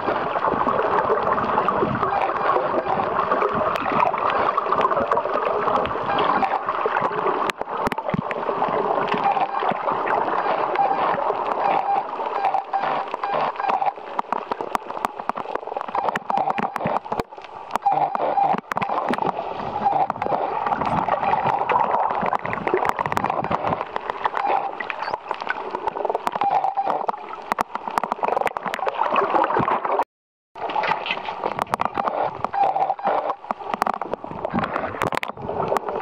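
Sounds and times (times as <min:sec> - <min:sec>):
water gurgling underwater: 0:00.0 - 0:30.0, 0:30.6 - 0:36.0.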